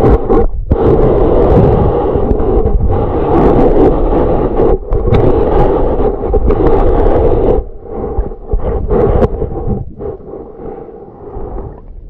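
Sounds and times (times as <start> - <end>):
muffled underwater water churning: 0.0 - 12.0.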